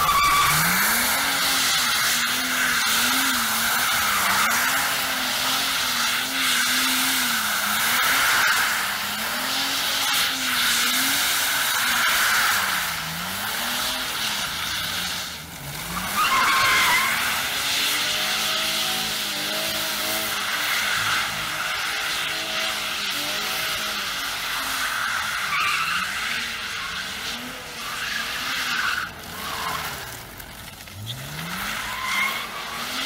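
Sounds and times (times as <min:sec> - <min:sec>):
car engine revving: 0:00.0 - 0:33.0
tyres squealing on wet tarmac: 0:00.0 - 0:33.0.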